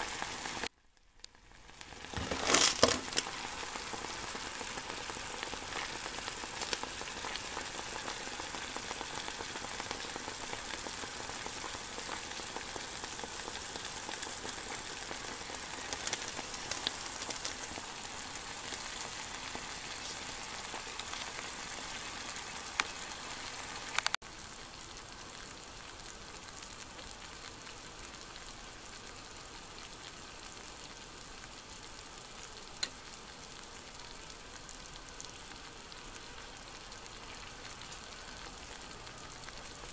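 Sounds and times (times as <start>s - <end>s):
vegetables sizzling in a pan: 0.0s - 0.7s, 1.3s - 39.9s.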